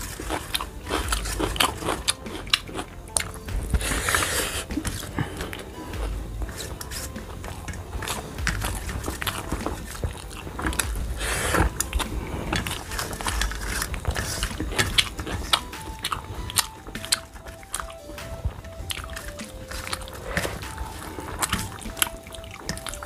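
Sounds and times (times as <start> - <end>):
chewing and wet mouth smacks: 0.0 - 23.0
faint simple tune: 0.0 - 23.0.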